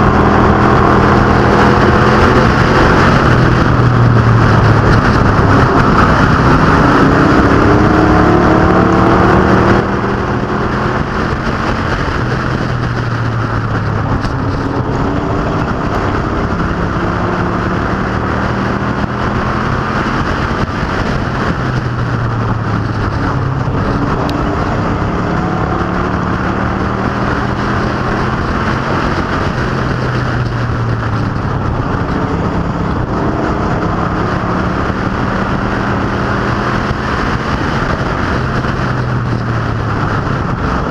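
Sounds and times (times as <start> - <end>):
racing car engines: 0.0 - 40.9.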